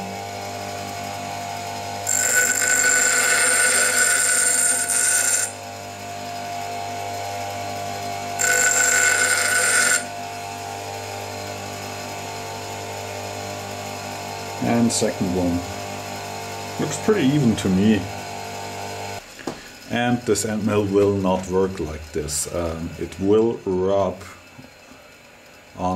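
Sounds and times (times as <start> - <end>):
bench grinder humming: 0.0 - 25.9.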